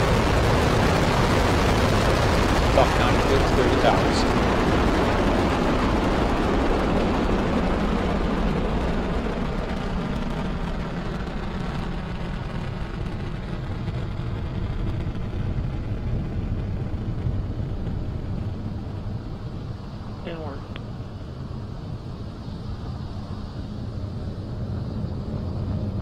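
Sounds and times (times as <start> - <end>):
rocket engines deep rumble: 0.0 - 26.0.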